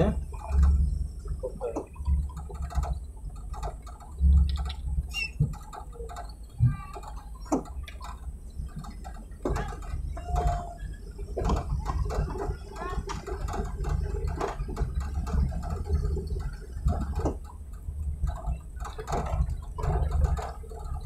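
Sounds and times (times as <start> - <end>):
knocks and rattles: 0.0 - 21.0
vehicle rumbling on dirt track: 0.0 - 21.0.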